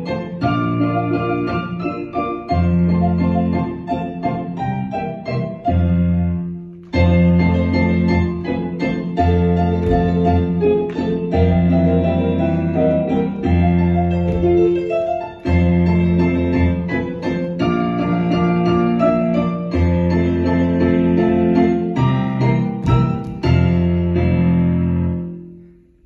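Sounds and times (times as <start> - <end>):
piano chords and bass notes: 0.0 - 26.0.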